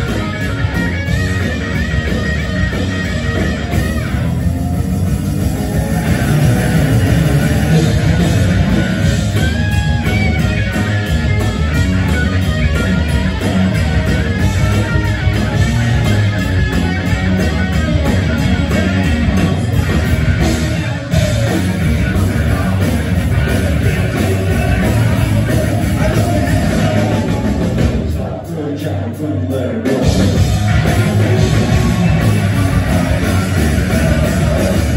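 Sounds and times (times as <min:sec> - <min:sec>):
electric guitar lead lines: 0:00.0 - 0:28.0, 0:30.0 - 0:34.9
bass guitar: 0:00.0 - 0:34.9
driving drums: 0:00.0 - 0:34.9.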